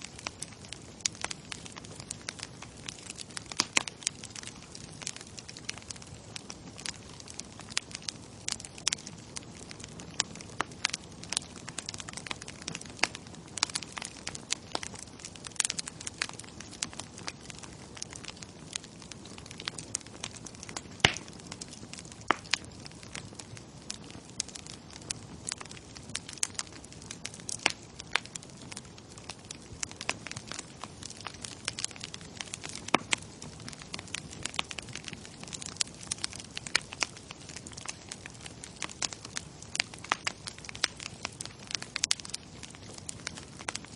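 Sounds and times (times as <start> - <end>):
bonfire crackling: 0.0 - 43.9.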